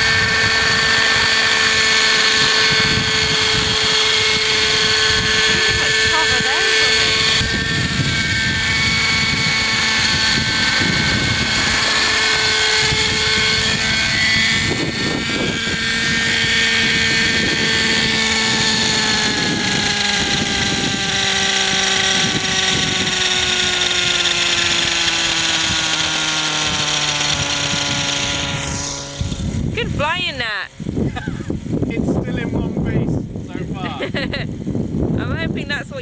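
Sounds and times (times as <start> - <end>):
model helicopter engine and rotors: 0.0 - 36.0
wind buffeting microphone: 0.0 - 36.0.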